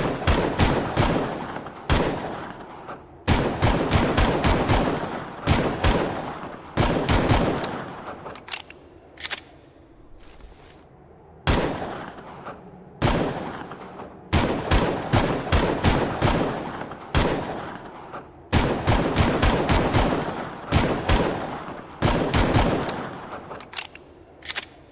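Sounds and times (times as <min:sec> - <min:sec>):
pistol shots with echoing tail: 0:00.0 - 0:08.3, 0:11.5 - 0:23.6.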